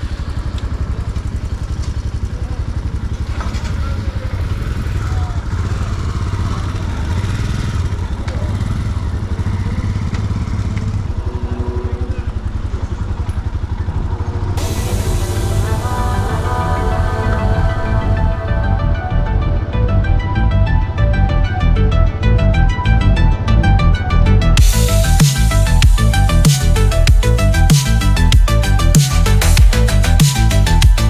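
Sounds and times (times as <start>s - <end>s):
motorcycle engine running: 0.0s - 16.6s, 17.2s - 31.0s.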